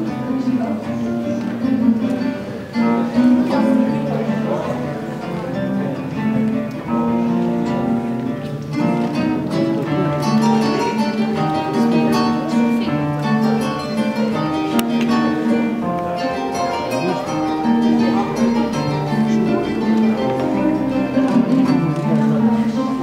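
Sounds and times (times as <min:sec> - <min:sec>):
classical guitar: 0:00.0 - 0:23.0
lute-like plucked instrument: 0:00.0 - 0:23.0.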